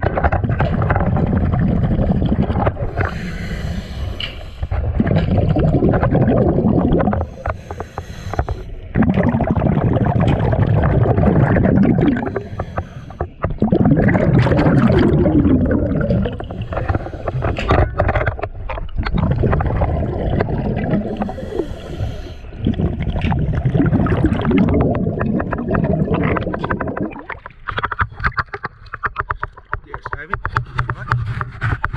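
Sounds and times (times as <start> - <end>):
air bubbles gurgling underwater: 0.0 - 28.6.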